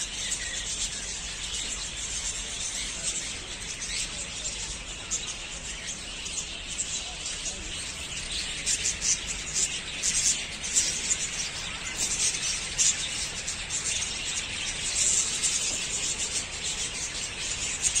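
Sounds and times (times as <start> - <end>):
budgerigars chattering: 0.0 - 18.0.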